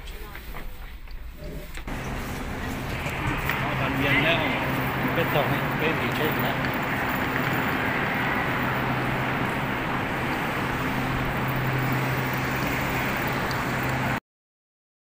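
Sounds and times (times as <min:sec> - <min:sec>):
low mechanical hum: 0:00.2 - 0:14.2
even rushing noise: 0:01.9 - 0:14.2.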